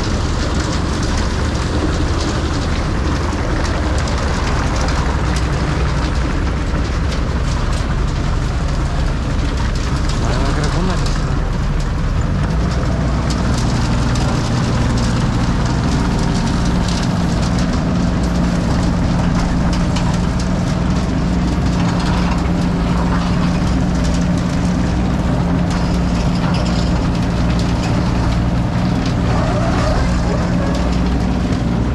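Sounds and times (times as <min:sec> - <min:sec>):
low engine drone: 0:00.0 - 0:31.9.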